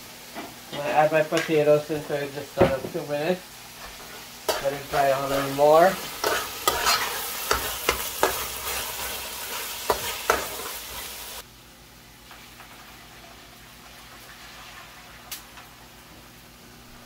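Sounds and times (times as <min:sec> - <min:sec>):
beans sizzling in a pot: 0:00.0 - 0:11.5, 0:12.1 - 0:16.6.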